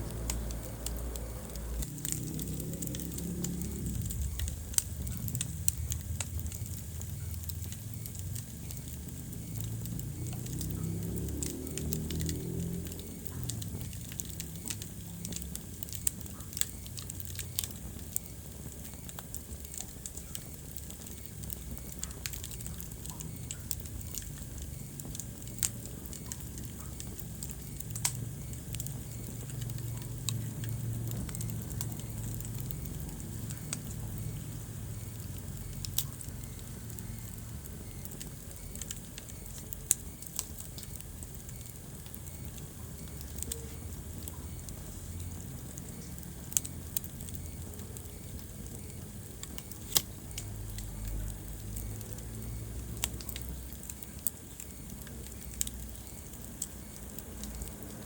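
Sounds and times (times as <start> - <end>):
sharp fire pops: 0.0 - 58.0
wood fire crackling: 0.0 - 58.0.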